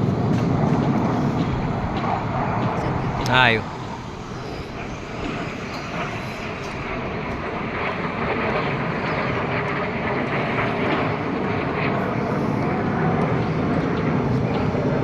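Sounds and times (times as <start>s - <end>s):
jet engines flying over: 0.0s - 15.0s.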